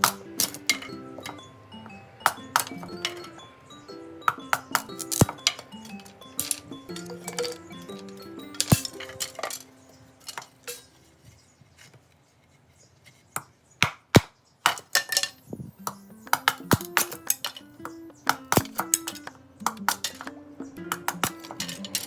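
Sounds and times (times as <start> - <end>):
hard objects clinking: 0.0 - 3.6, 4.2 - 11.6, 14.6 - 22.0
soft background music: 0.0 - 11.8, 14.9 - 22.0.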